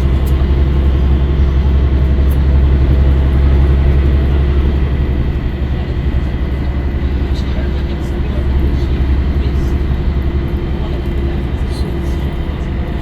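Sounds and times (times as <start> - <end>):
diesel bus engine droning: 0.0 - 13.0.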